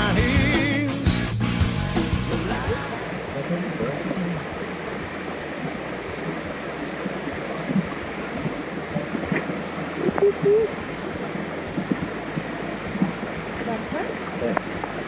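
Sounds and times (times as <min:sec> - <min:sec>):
waterfall rushing: 0:02.2 - 0:15.0.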